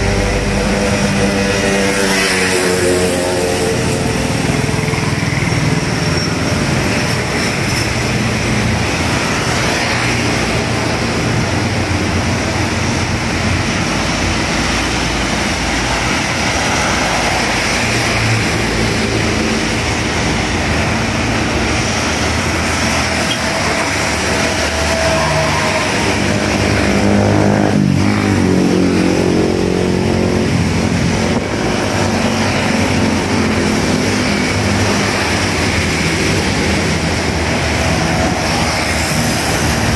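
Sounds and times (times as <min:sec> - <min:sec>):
motorcycles and cars passing: 0:00.0 - 0:39.9
tyres hissing on wet asphalt: 0:00.0 - 0:39.9.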